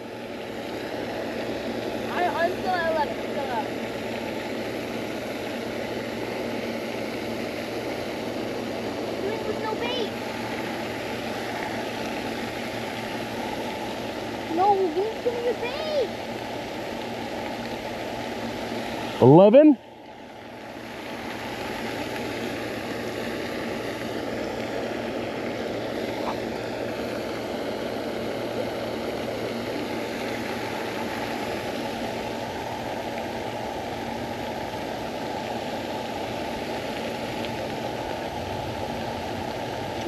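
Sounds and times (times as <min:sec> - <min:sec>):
steady rushing noise: 0:00.0 - 0:40.0.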